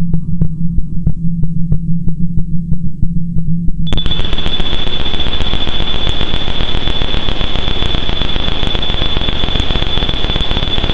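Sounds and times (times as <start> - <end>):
synthesizer crackling noise drone: 0.0 - 10.9.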